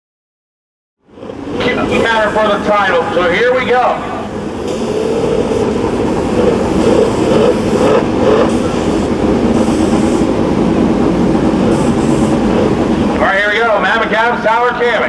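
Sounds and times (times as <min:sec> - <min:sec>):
motorcycle engines at high revs: 0:01.1 - 0:13.2.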